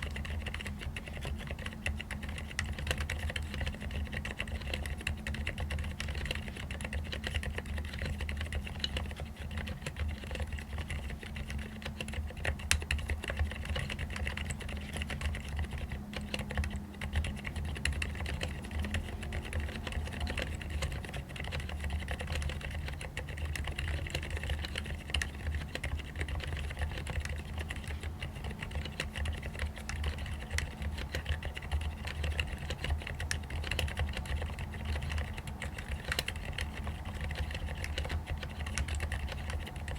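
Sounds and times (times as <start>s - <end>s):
muted mechanical keyboard typing: 0.0s - 39.9s
steady low hum: 0.0s - 39.9s.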